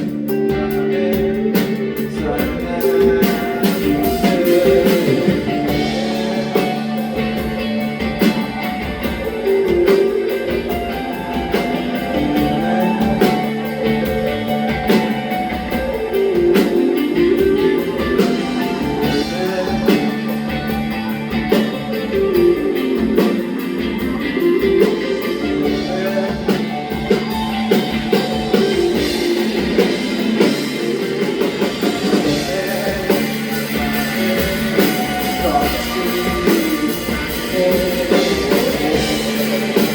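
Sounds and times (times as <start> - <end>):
rock band music: 0.0 - 39.9.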